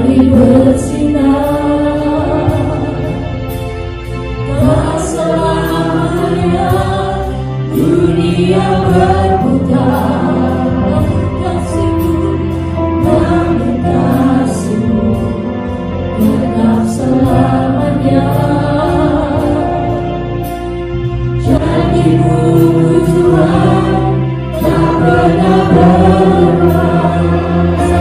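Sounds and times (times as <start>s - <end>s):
voices singing together: 0.0s - 3.3s, 4.4s - 20.2s, 21.4s - 28.0s
worship band playing: 0.0s - 28.0s.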